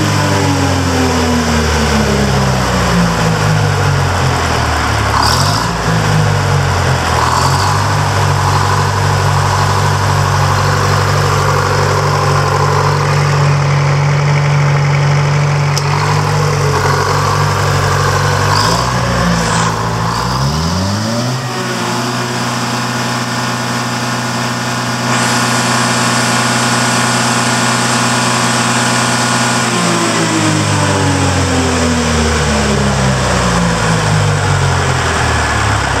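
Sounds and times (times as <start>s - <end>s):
diesel engine revving: 0.0s - 36.0s.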